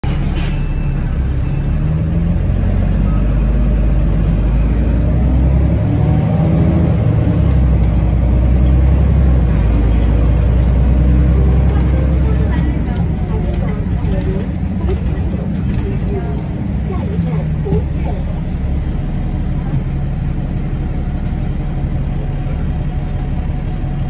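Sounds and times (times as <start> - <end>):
road noise: 0.0 - 24.0
vehicle engine rumbling: 0.0 - 24.0.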